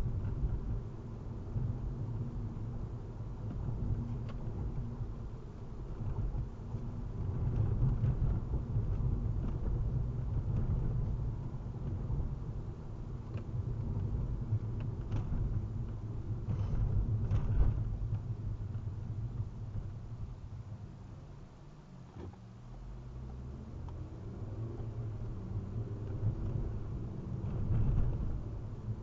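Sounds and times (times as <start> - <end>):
road and engine rumble in car: 0.0 - 29.0.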